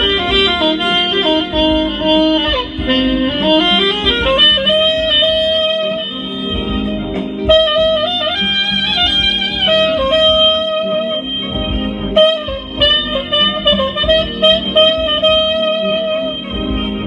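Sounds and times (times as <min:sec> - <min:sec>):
soprano saxophone melody: 0:00.0 - 0:17.0.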